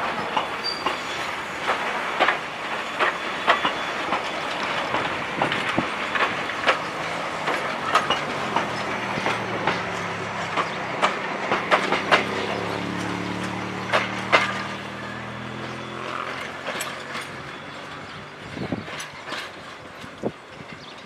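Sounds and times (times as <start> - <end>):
train wheels clicking over rail joints: 0.0 - 21.0.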